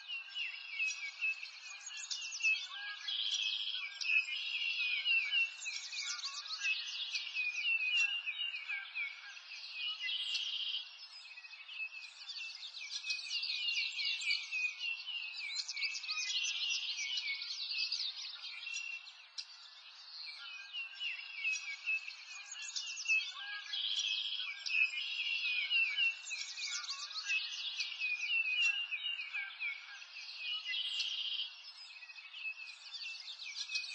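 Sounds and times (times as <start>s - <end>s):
small birds chirping and trilling: 0.0s - 33.9s.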